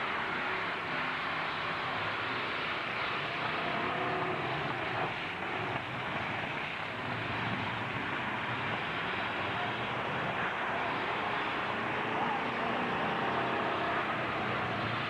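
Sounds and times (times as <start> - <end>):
truck engines running: 0.0 - 15.0.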